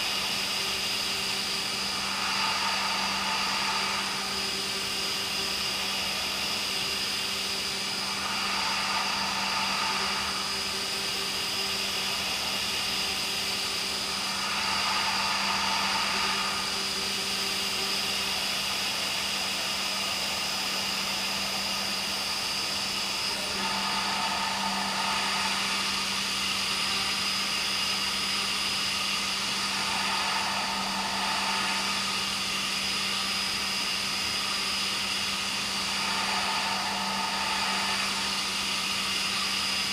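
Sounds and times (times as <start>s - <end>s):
machine hum with high whine: 0.0s - 39.9s
metal cutting noise: 0.0s - 39.9s.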